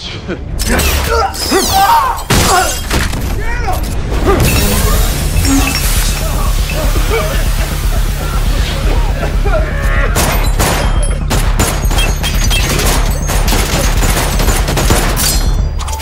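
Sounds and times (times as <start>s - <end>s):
low background music: 0.0s - 16.0s.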